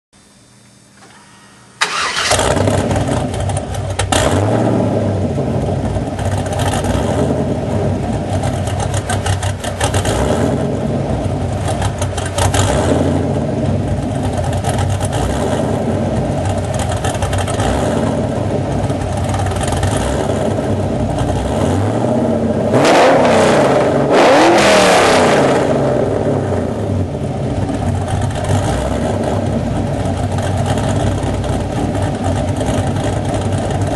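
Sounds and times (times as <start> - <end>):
car engine idling and revving: 1.0 - 33.9
car engine starting: 1.0 - 33.9.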